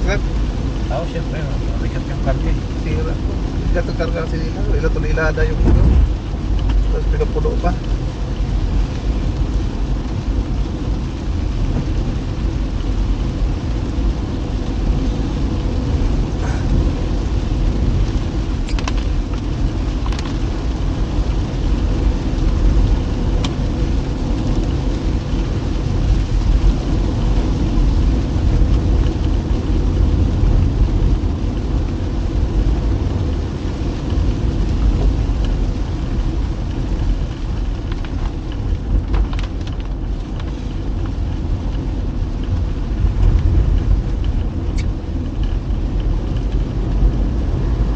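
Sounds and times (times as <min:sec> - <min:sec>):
engine and tyre rumble: 0:00.0 - 0:47.9.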